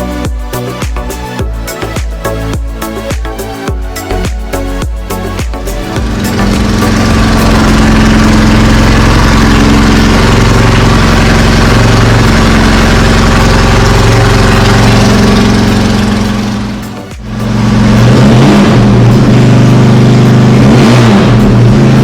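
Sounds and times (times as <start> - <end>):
race engine running steadily: 0.0 - 22.0.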